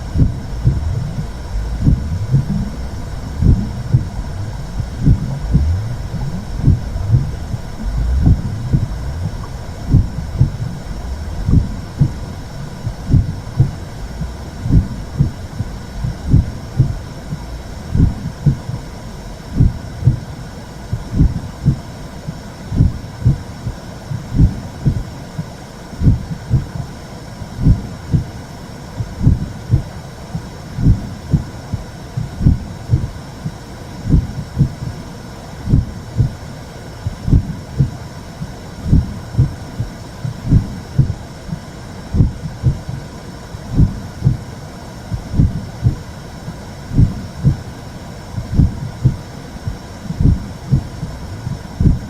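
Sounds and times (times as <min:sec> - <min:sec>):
heartbeat thudding: 0:00.0 - 0:20.3, 0:20.9 - 0:26.8, 0:27.6 - 0:28.3, 0:29.0 - 0:35.0, 0:35.7 - 0:36.4, 0:37.0 - 0:43.0, 0:43.7 - 0:44.5, 0:45.1 - 0:47.7, 0:48.4 - 0:52.0
steady whooshing noise: 0:00.0 - 0:52.0.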